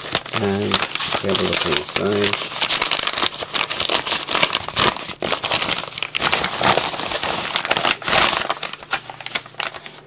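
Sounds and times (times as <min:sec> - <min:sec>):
paper mailer crinkling: 0:00.0 - 0:10.0.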